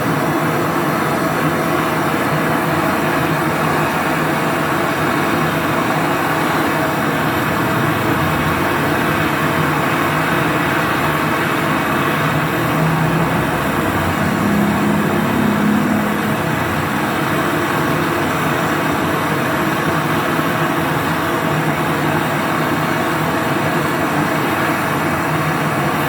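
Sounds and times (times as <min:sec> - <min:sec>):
machine humming: 0:01.8 - 0:26.0.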